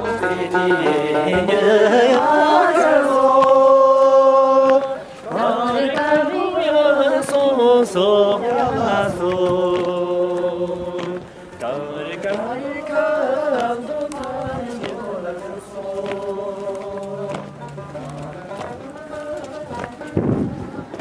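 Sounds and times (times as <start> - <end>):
person singing chant-like melody: 0.0 - 21.0.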